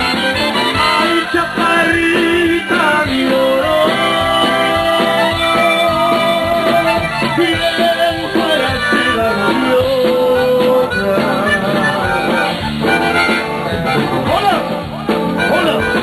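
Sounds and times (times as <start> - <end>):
band music with reedy melody: 0.0 - 16.0
steady beat: 0.0 - 16.0.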